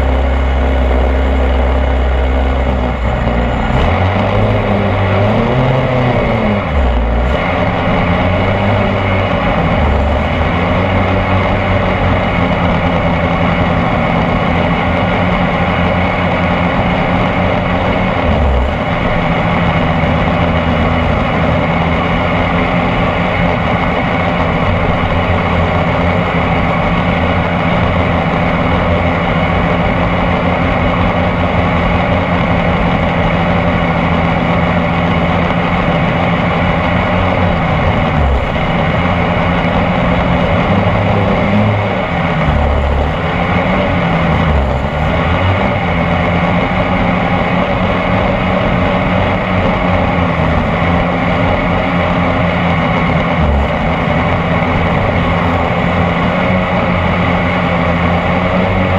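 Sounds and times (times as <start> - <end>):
model boat engine running: 0.0 - 58.9.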